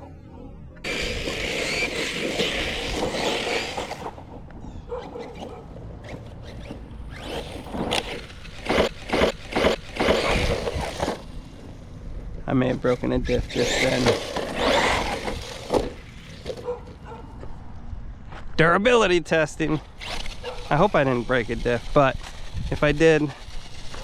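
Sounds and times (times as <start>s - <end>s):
rc car tyres scraping on gravel: 0.8s - 17.2s, 18.3s - 24.0s.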